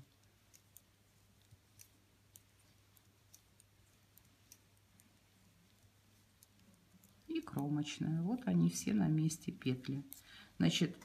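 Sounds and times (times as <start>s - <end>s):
knitting needles clicking: 0.0s - 11.0s
low steady hum: 0.0s - 11.0s.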